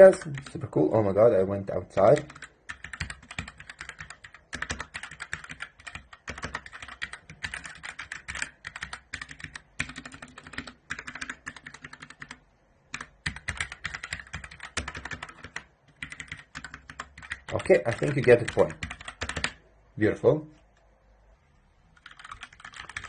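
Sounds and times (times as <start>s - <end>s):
fast typing on mechanical keyboard: 2.0s - 19.6s, 22.0s - 23.0s.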